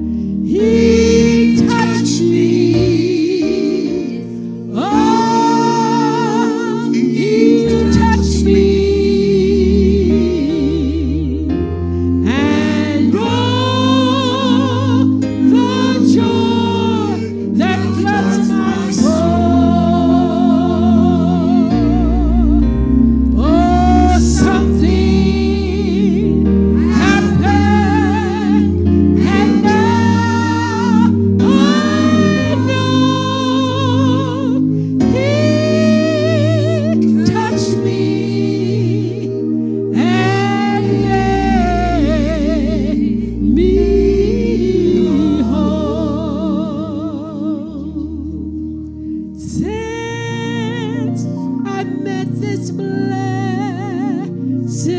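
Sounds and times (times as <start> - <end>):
gospel singing with vibrato: 0.0 - 54.9
instrumental backing: 0.0 - 54.9
organ-like chords: 0.0 - 54.9.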